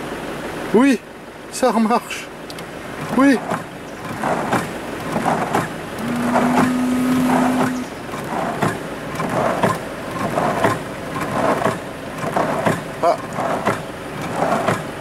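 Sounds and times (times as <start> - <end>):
steady low hum: 0.0 - 15.0
wiper arm knocking: 2.6 - 15.0
wiper blades scraping glass: 3.0 - 15.0.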